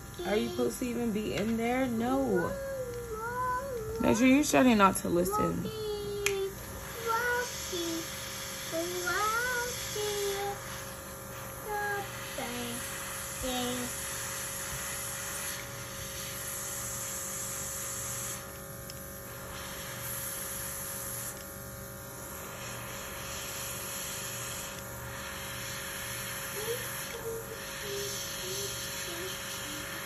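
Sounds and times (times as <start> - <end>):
airbrush air hissing: 0.0 - 18.6, 19.2 - 21.5, 22.1 - 30.0
compressor humming: 0.0 - 30.0.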